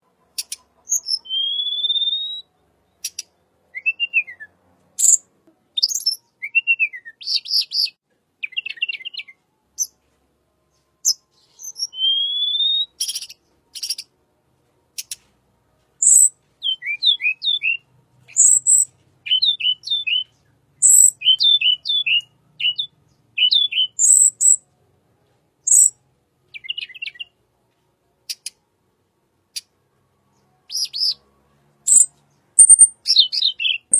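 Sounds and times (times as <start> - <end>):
bird song: 0.0 - 14.2, 14.9 - 15.4, 16.0 - 28.7, 29.4 - 33.9.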